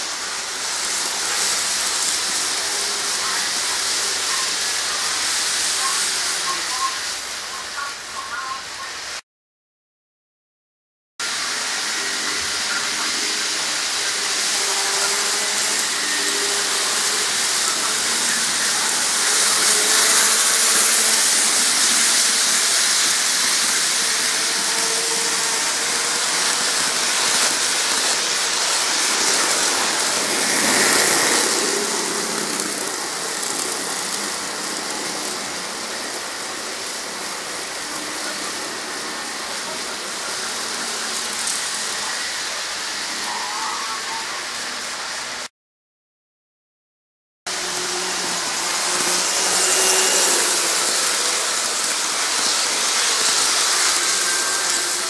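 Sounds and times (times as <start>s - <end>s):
model trains whirring on track: 0.0s - 9.2s, 11.2s - 45.5s, 47.5s - 55.0s.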